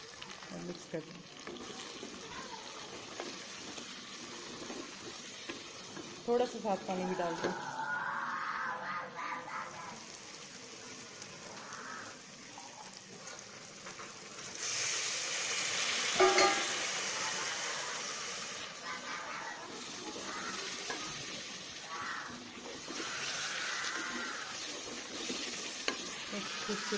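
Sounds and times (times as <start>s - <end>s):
meat sizzling in a pot: 0.0s - 8.5s, 9.2s - 26.9s.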